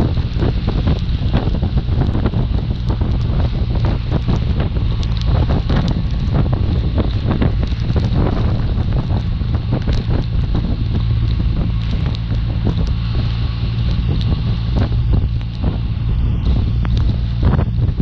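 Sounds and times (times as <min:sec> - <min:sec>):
motorcycle engine drone: 0:00.0 - 0:18.0
wind rushing over microphone: 0:00.0 - 0:18.0.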